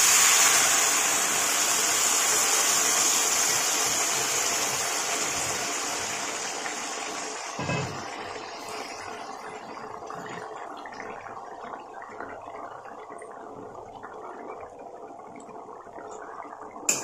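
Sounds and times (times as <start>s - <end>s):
water bubbling and sizzling in oil: 0.0s - 17.0s.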